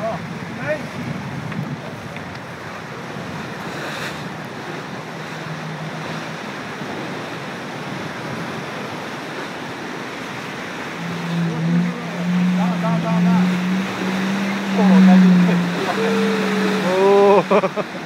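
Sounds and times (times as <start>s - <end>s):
wind buffeting microphone: 0.0s - 17.0s
rushing water: 0.0s - 18.0s.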